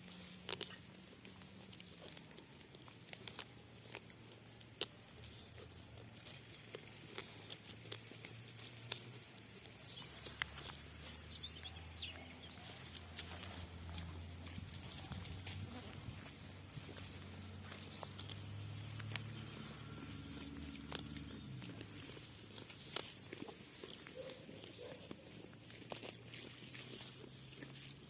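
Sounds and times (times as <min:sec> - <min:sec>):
livestock moving about: 0:00.0 - 0:28.0.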